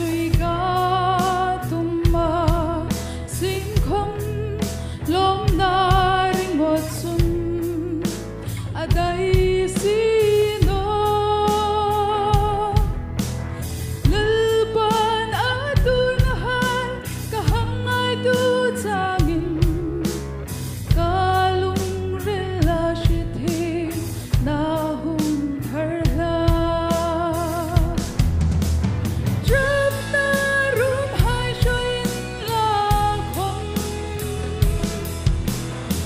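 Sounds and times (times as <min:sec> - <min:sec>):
woman singing worship song: 0:00.0 - 0:13.0, 0:14.0 - 0:28.1, 0:29.4 - 0:35.1
backing music with bass and drums: 0:00.0 - 0:36.0.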